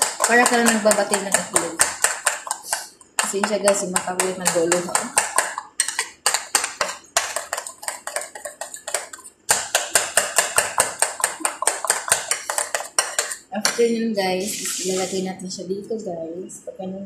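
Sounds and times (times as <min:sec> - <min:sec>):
utensil beating in ceramic bowl: 0:00.0 - 0:14.0.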